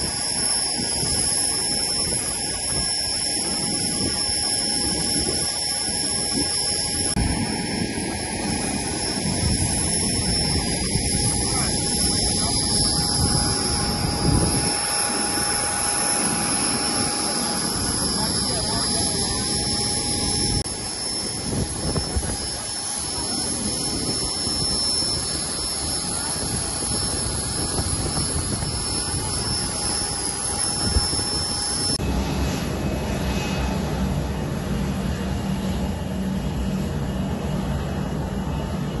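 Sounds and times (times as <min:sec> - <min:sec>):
distant jet rumbling rush: 0:00.0 - 0:39.0
jet engines with high whine: 0:00.0 - 0:39.0.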